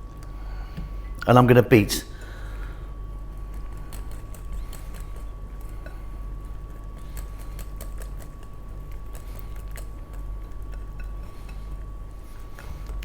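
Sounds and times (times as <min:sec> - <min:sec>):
utensil tapping bowl beating batter: 0:02.1 - 0:13.0.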